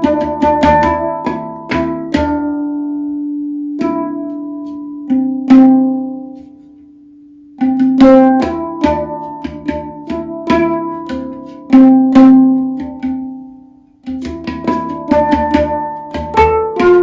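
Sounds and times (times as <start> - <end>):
handpan notes ringing: 0.0 - 6.7, 7.6 - 17.0.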